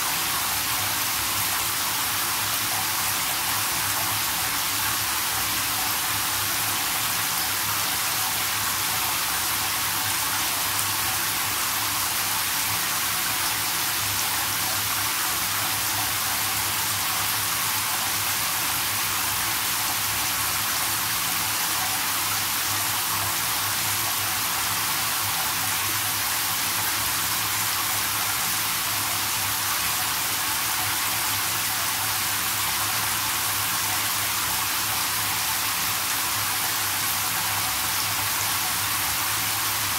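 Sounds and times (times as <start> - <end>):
shower spray hissing into bathtub: 0.0 - 39.9.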